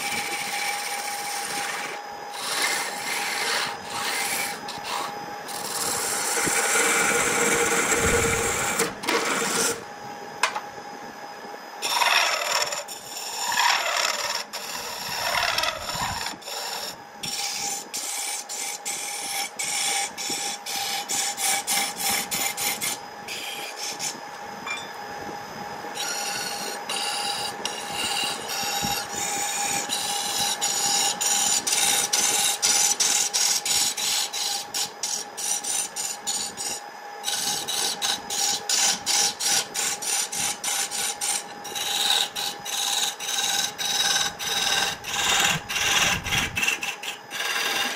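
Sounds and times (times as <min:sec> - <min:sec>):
turning tool scraping wood: 0:00.0 - 0:09.9, 0:11.8 - 0:24.3, 0:26.0 - 0:47.9
lathe motor humming: 0:00.0 - 0:11.0, 0:11.8 - 0:47.9.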